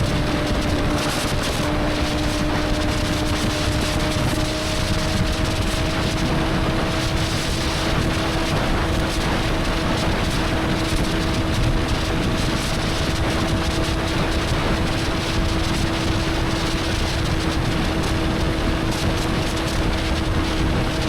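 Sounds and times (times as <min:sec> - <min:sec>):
heavy wind rush: 0:00.0 - 0:21.0
motorcycle engine cruising: 0:00.0 - 0:21.0.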